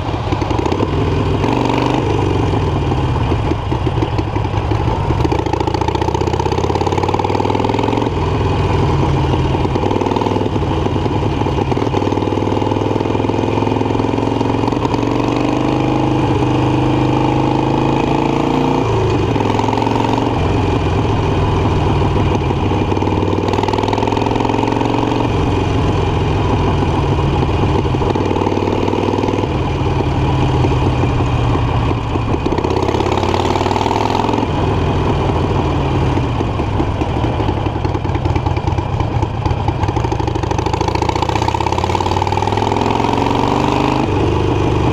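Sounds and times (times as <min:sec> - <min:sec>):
motorcycle engine revving through gears: 0:00.0 - 0:44.9.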